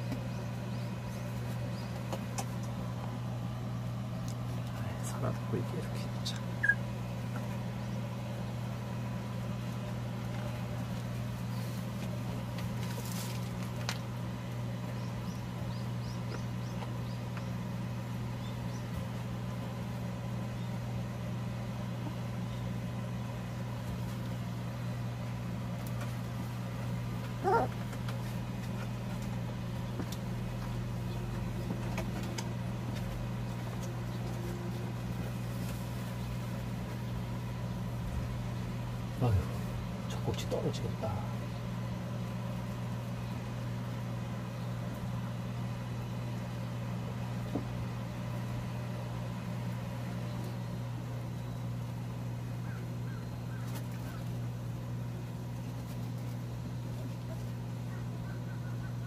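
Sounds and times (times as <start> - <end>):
electric fan humming: 0.0 - 59.0.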